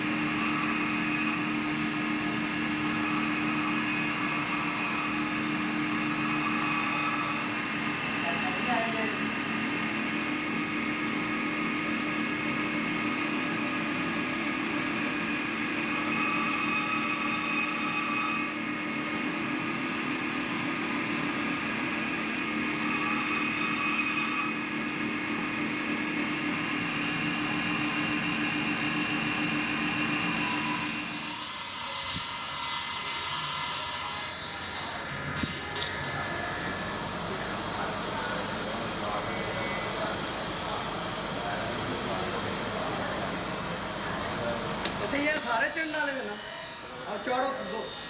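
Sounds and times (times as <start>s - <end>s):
power tool motor running: 0.0s - 48.0s.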